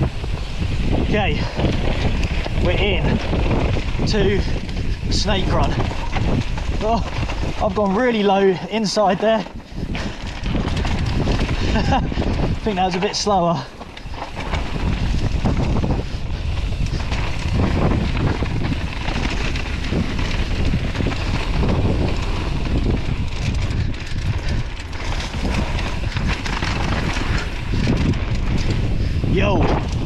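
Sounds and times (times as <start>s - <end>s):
bike rattling: 0.0s - 30.0s
bike tyres on dirt trail: 0.0s - 30.0s
wind buffeting microphone: 0.0s - 30.0s.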